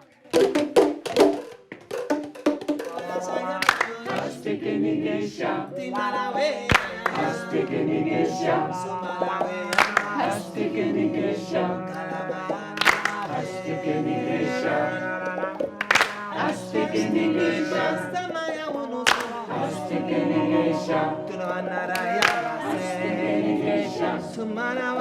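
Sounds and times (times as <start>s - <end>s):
group of voices singing: 2.8s - 25.0s.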